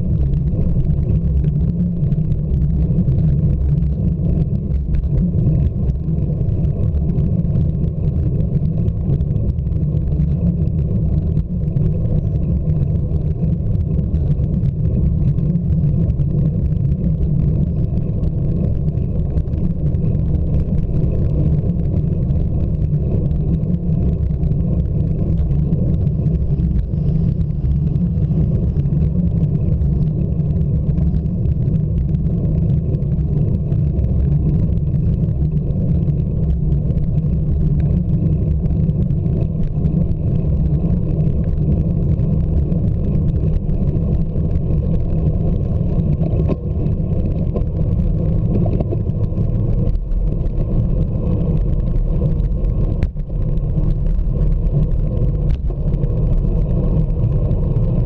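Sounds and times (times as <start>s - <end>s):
tyre on road vibration: 0.0s - 58.0s
wind on microphone: 0.0s - 58.0s.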